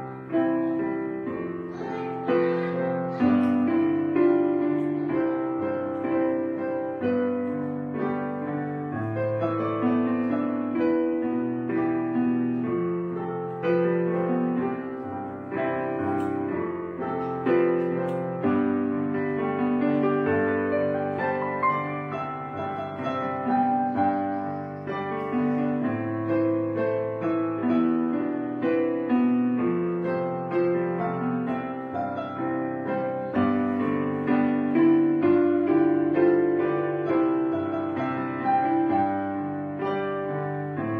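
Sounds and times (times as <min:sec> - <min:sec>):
piano melody: 0:00.0 - 0:40.9.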